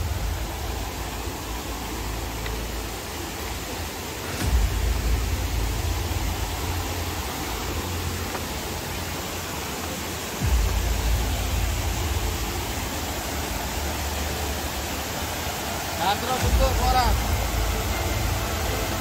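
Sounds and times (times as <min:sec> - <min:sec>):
rushing stream water: 0:00.0 - 0:19.0.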